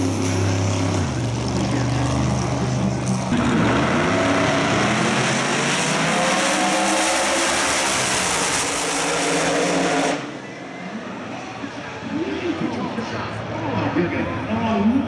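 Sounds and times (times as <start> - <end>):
race car engines at full throttle: 0.0 - 15.0.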